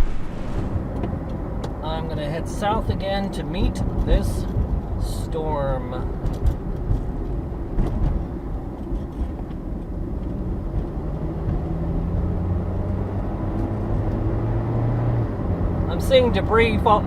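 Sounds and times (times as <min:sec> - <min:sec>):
car engine hum: 0:00.0 - 0:17.0
road and wind noise: 0:00.0 - 0:17.0.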